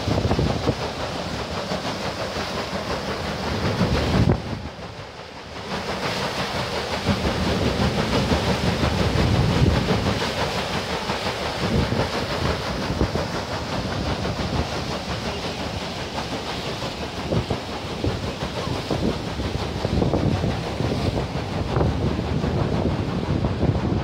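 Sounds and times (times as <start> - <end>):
water rushing: 0.0 - 24.0.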